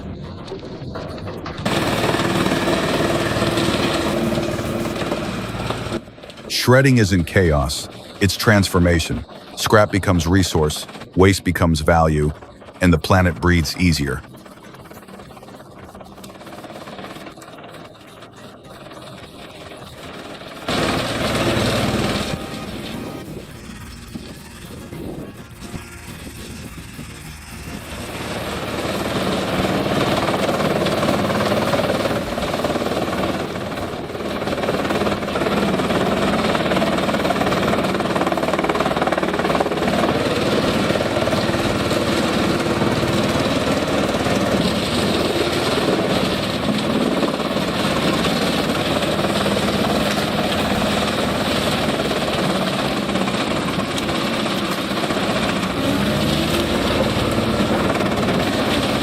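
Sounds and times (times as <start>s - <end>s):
wood-processing machine rumbling: 0.1s - 6.5s, 14.2s - 59.0s.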